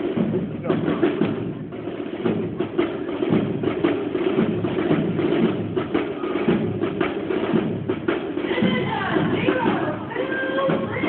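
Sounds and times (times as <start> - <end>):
band playing a march: 0.0 - 11.0.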